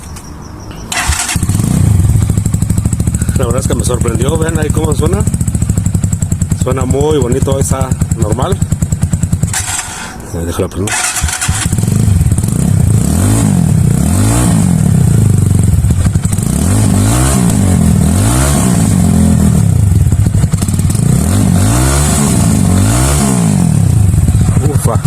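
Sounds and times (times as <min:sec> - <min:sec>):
motorcycle engine revving: 0:00.9 - 0:25.0.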